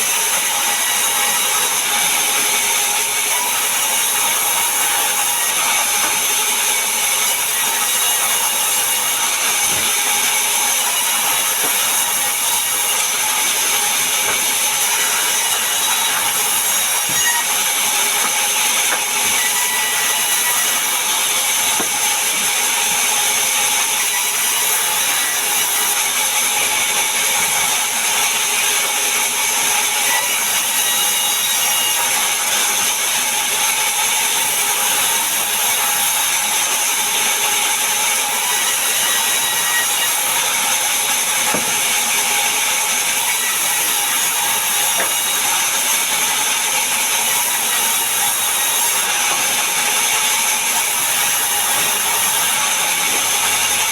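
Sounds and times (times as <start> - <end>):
power saw cutting wood: 0.0 - 53.9.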